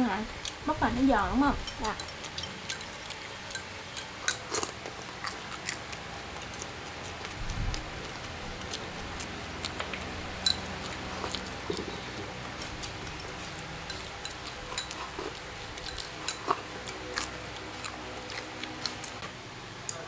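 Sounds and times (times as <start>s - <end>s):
utensils clicking against bowls: 0.0s - 19.2s.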